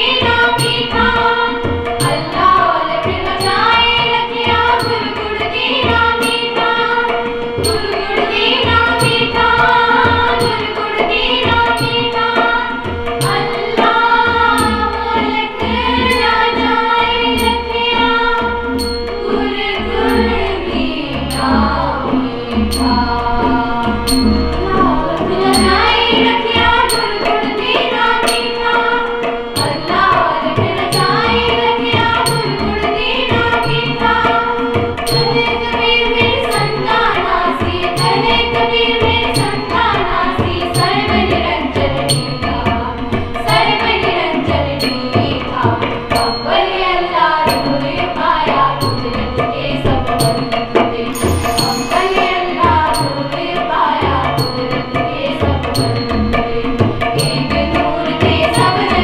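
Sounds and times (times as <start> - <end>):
tabla drum strokes: 0.0 - 59.0
young voices singing a hymn: 0.0 - 59.0.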